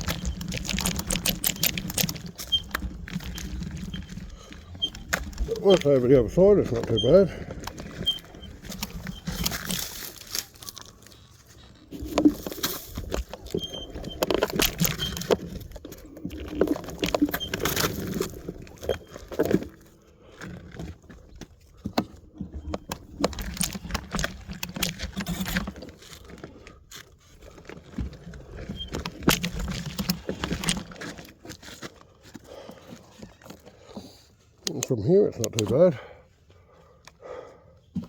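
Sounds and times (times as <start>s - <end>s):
scooter frame rattling over rocks: 0.0s - 36.1s.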